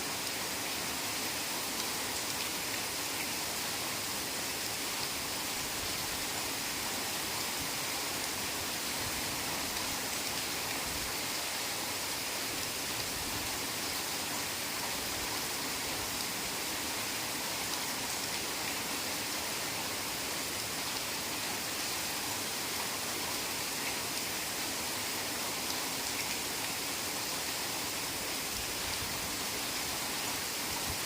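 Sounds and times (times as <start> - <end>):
heavy rain on foliage: 0.0 - 31.0.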